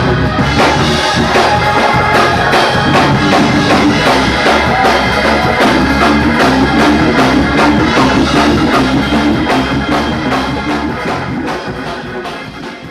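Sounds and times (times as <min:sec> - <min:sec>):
drum kit fast beat: 0:00.0 - 0:12.9
live band playing: 0:00.0 - 0:12.9.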